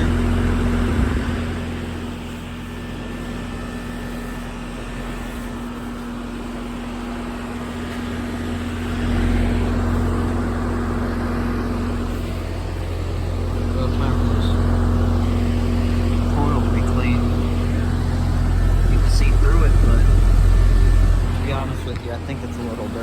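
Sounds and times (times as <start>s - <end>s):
compressor humming: 0.0s - 23.0s
condenser fan rushing air: 0.0s - 23.0s.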